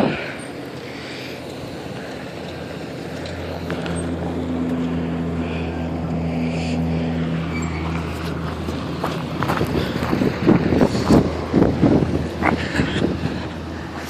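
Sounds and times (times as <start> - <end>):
motor engine droning: 0.0 - 14.0.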